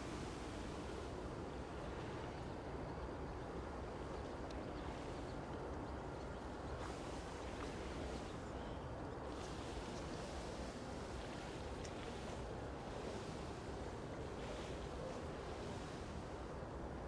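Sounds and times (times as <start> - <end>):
water: 0.0 - 17.0
wind: 0.0 - 17.0.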